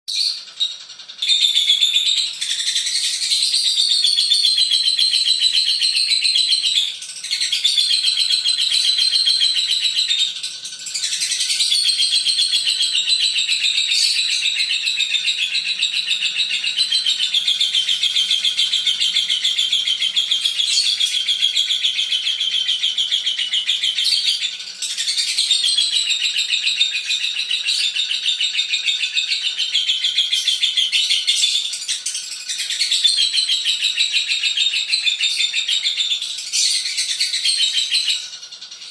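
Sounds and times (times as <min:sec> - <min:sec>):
lovebird chattering trill: 0:00.1 - 0:38.9.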